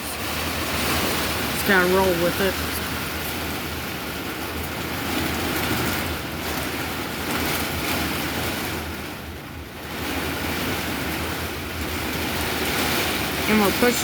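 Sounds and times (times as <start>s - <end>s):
heavy rain: 0.0s - 14.0s
strong wind: 0.0s - 14.0s.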